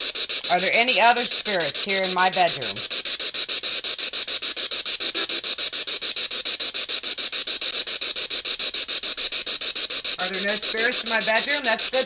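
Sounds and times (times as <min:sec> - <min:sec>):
radio scanner hiss pulsing: 0:00.0 - 0:12.0.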